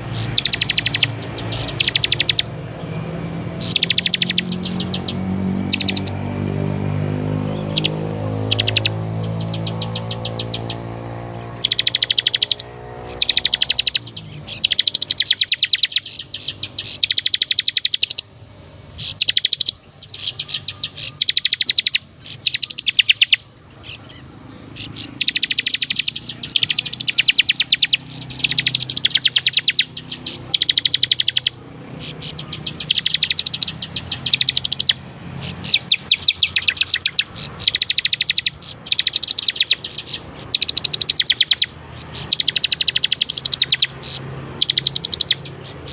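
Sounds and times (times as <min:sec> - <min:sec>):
bird singing high trills: 0:00.0 - 0:45.9.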